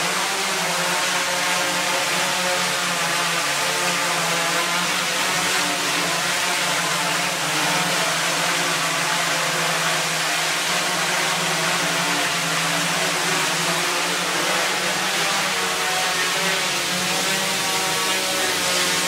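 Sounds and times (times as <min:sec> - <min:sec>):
drone motors and propellers whirring: 0:00.0 - 0:19.0.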